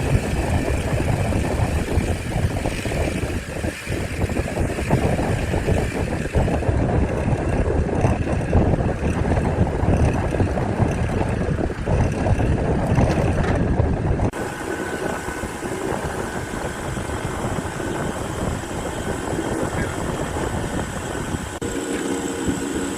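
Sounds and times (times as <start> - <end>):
rough machine rumble: 0.0 - 22.9.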